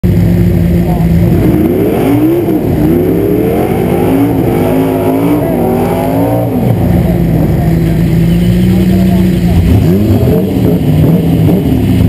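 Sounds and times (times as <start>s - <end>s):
car engine revving over idle: 0.0s - 12.0s.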